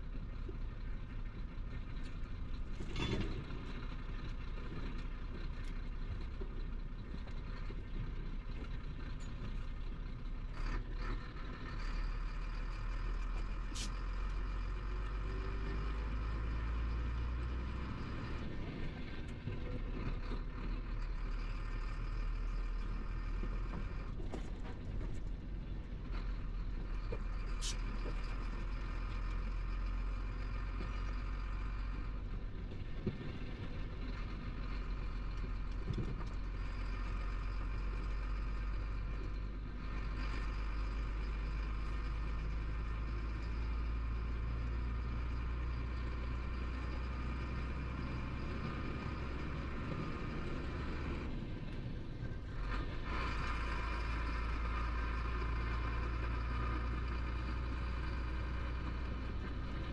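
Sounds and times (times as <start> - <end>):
road noise: 0.0 - 59.9
truck diesel engine drone: 0.0 - 59.9.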